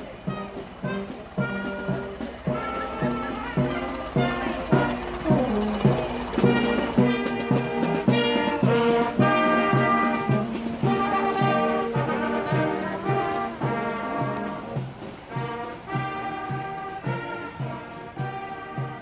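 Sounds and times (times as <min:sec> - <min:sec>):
brass band playing: 0:00.0 - 0:19.0
steady drum beat: 0:00.0 - 0:19.0.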